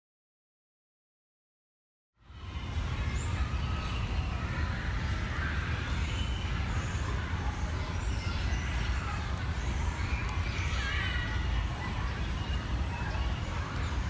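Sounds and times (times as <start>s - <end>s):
low rumble of distant traffic: 2.2s - 14.0s.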